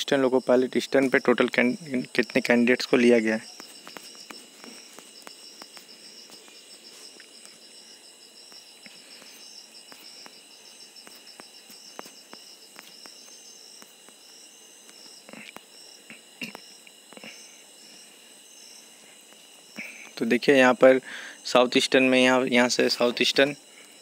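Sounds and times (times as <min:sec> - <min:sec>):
insects chirping: 0:00.0 - 0:24.0
soft hiss: 0:00.0 - 0:24.0.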